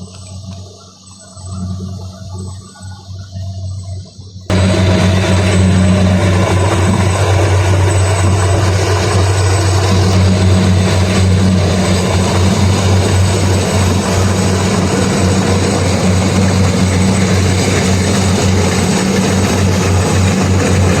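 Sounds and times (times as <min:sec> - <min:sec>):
combine harvester engine hum: 0:00.0 - 0:21.0.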